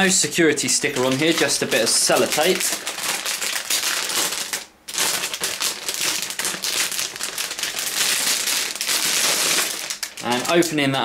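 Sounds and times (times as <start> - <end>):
plastic bag crinkling: 0.7 - 10.9.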